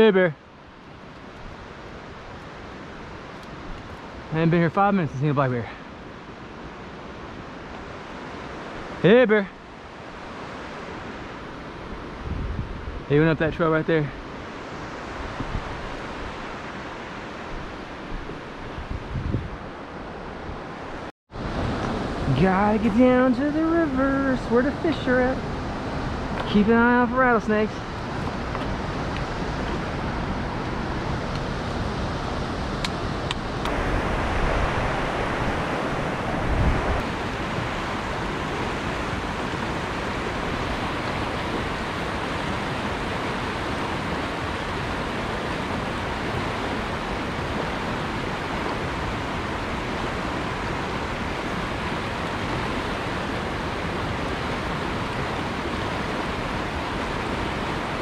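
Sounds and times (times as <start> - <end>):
stream rushing over rocks: 0.1 - 58.0.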